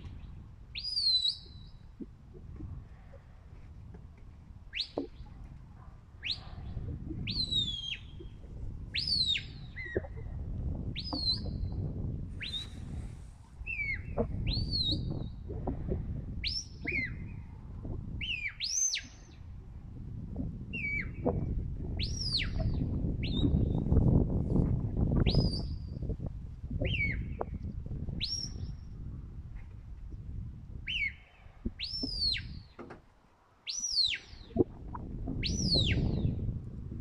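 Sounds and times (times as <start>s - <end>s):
wind rumble on microphone: 0.0s - 33.2s, 33.9s - 37.0s.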